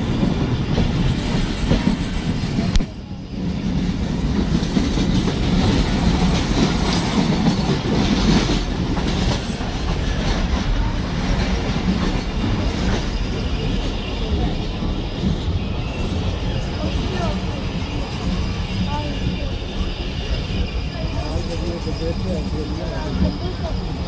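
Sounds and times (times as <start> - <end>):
passenger train running: 0.0 - 24.0.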